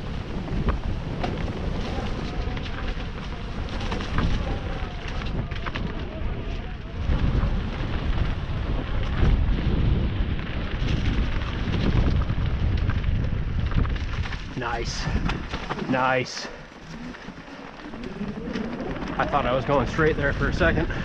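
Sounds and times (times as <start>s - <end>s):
bike clicking and rattling: 0.0s - 21.0s
bike tyres rumbling on trail: 0.0s - 21.0s
wind buffeting microphone: 0.0s - 21.0s.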